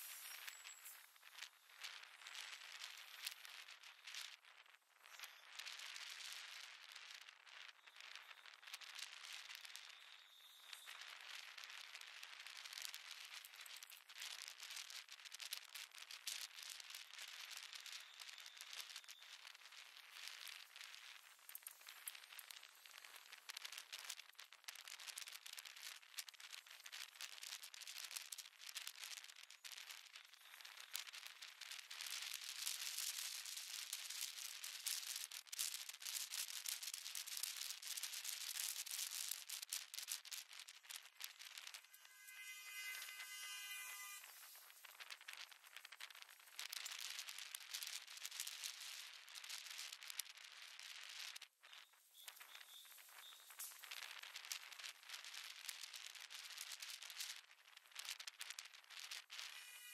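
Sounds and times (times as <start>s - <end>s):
wind crackling on microphone: 0.0s - 42.0s, 44.2s - 59.7s.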